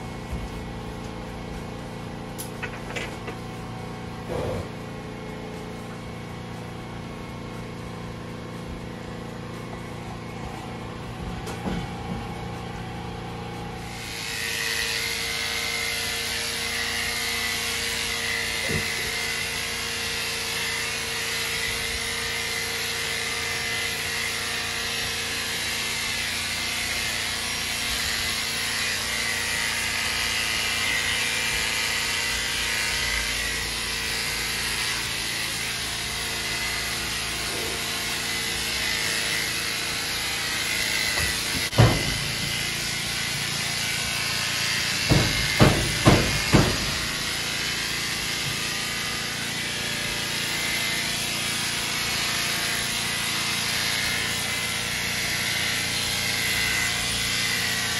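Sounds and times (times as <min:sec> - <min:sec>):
electric clippers whining: 0:00.0 - 0:57.9.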